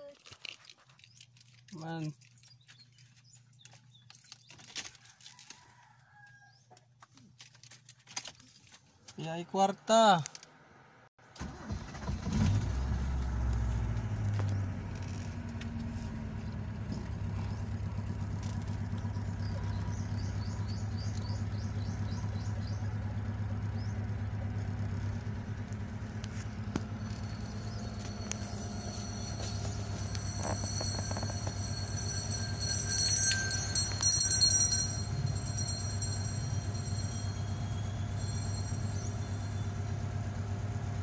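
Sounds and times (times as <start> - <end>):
car engine starting and idling: 7.4 - 41.0.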